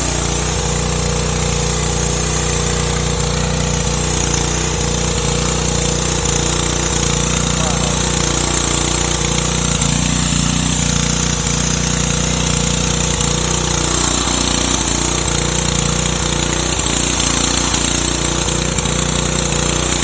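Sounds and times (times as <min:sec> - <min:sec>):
pressure washer pump humming: 0:00.0 - 0:20.0
water jets hissing on pavement: 0:00.0 - 0:20.0.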